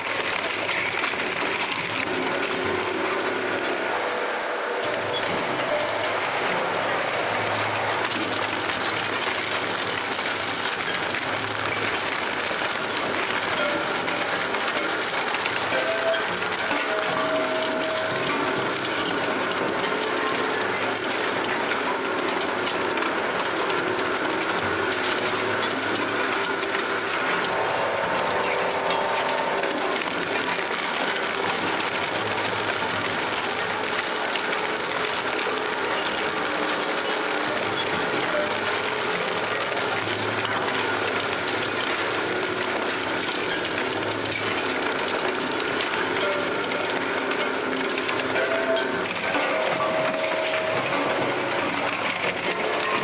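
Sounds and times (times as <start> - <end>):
metal crunching in shredder: 0.0 - 53.0.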